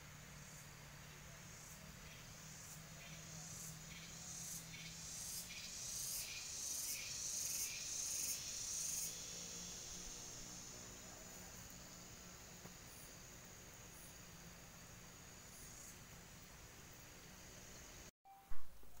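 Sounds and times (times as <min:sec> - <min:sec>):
insect chirping: 0:00.0 - 0:18.4.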